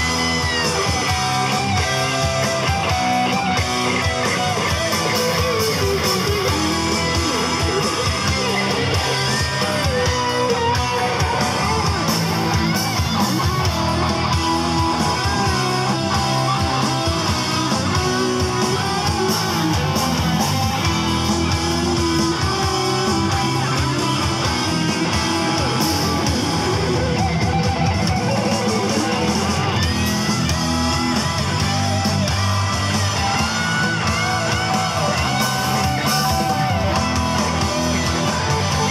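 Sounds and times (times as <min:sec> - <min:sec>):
bass guitar: 0:00.0 - 0:38.9
electric guitars: 0:00.0 - 0:38.9
electronic drum kit: 0:00.0 - 0:38.9.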